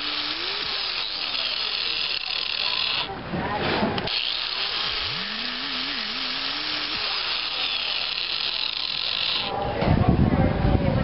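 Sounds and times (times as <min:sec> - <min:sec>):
angle grinder grinding iron: 0:00.0 - 0:03.2, 0:03.8 - 0:09.6.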